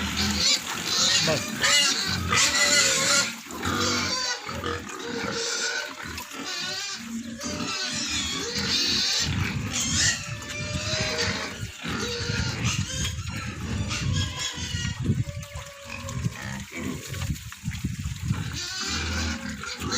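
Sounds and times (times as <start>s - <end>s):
pigs squealing: 0.0s - 17.3s, 18.2s - 19.9s.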